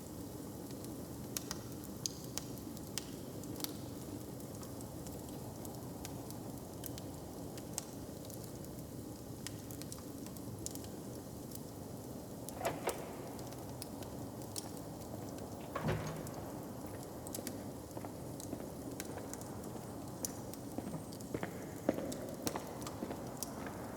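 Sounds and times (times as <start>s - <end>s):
open fire crackling: 0.0s - 23.9s.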